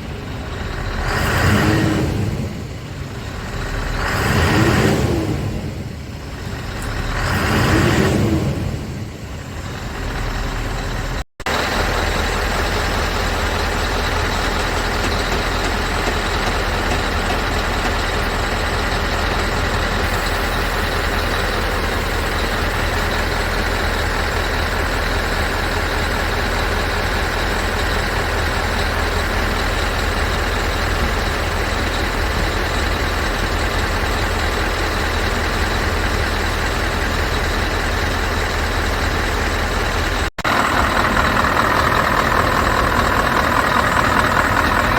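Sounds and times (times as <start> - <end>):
diesel truck engine idling: 0.0 - 4.5, 8.6 - 44.9.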